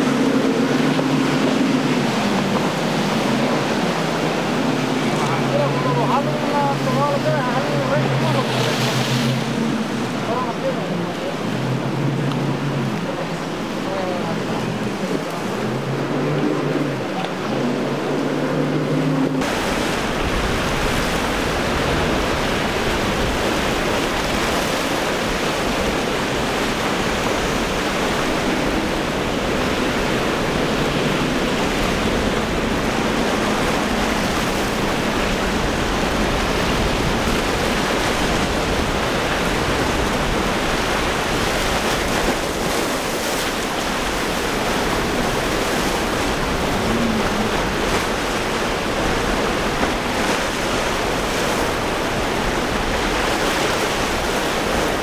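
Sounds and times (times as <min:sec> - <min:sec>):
breaking surf: 0:00.0 - 0:55.0
outboard motor hum: 0:00.0 - 0:55.0
wind: 0:00.0 - 0:55.0.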